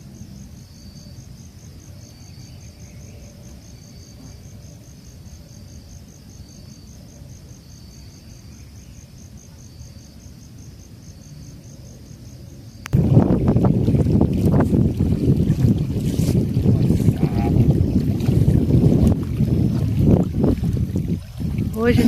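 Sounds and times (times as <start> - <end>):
cricket chirping: 0.0 - 22.0
lower insect call: 0.0 - 22.0.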